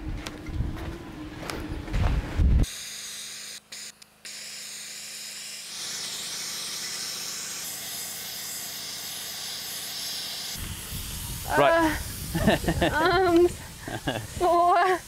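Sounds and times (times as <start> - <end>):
sandblasting hiss on steel: 2.6 - 15.0.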